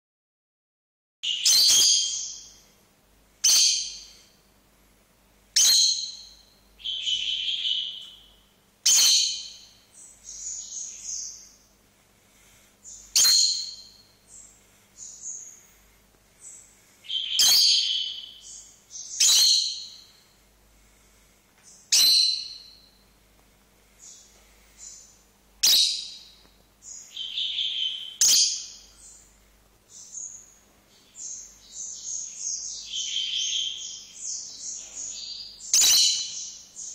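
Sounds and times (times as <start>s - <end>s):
lovebirds calling sharply: 1.2s - 2.8s, 3.4s - 4.4s, 5.5s - 11.7s, 12.8s - 15.8s, 16.4s - 20.4s, 21.6s - 23.0s, 23.9s - 36.9s
quiet bird chirps: 1.2s - 2.8s, 3.4s - 4.5s, 5.5s - 11.8s, 12.8s - 15.8s, 16.4s - 20.5s, 21.6s - 23.2s, 23.9s - 36.9s.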